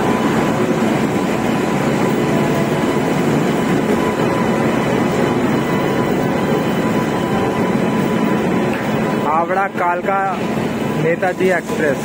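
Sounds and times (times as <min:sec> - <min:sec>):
faint steady whine: 0:00.0 - 0:12.0
train wheels on rail: 0:00.0 - 0:12.0.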